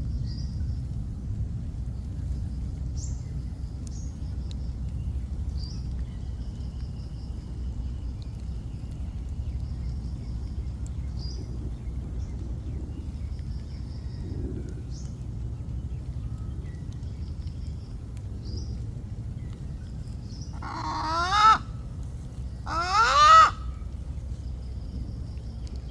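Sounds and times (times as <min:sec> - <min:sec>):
steady low rumble: 0:00.0 - 0:25.9
small birds calling and trilling: 0:01.9 - 0:25.9.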